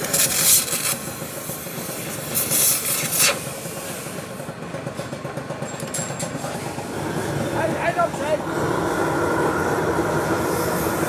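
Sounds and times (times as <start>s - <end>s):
loud rasping hiss: 0.0s - 4.4s, 6.6s - 11.0s
gas torch burning: 0.0s - 11.0s.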